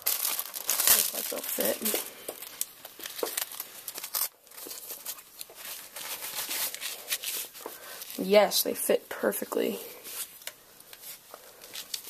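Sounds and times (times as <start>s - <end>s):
gloves rustling and crinkling: 0.0s - 12.0s.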